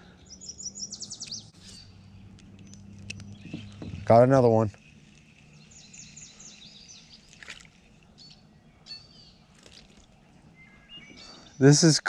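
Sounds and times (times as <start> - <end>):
faint outdoor background: 0.0 - 12.0
songbirds chirping: 0.0 - 12.0.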